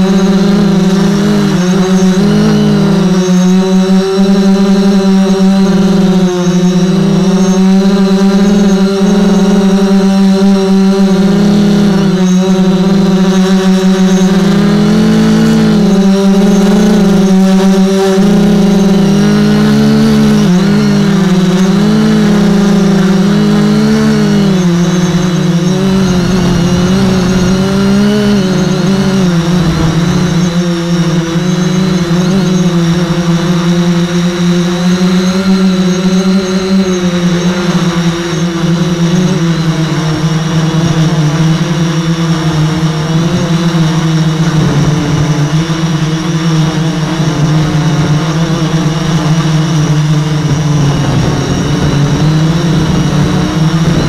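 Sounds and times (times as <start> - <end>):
multicopter motors buzzing: 0.0 - 54.0.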